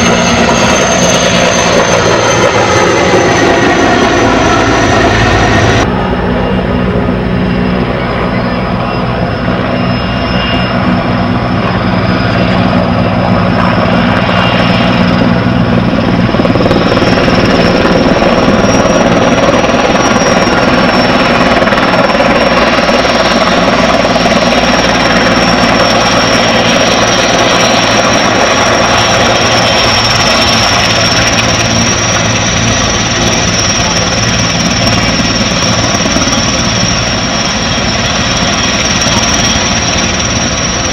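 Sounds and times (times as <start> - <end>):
helicopter rotor and engine: 0.0 - 40.9
high whine: 0.0 - 40.9.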